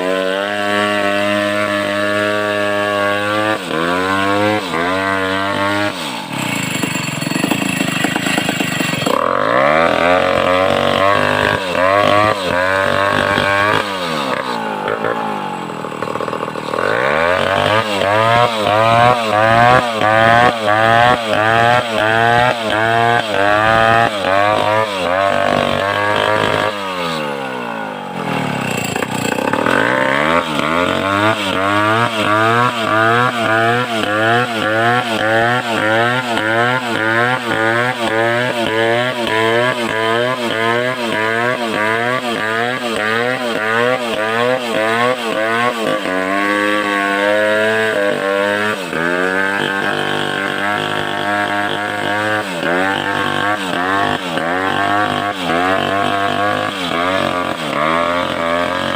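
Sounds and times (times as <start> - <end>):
chainsaw cutting timber: 0.0 - 58.9.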